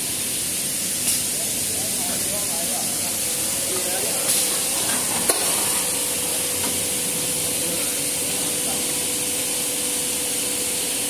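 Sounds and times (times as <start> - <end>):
paper machine hissing: 0.0 - 11.0.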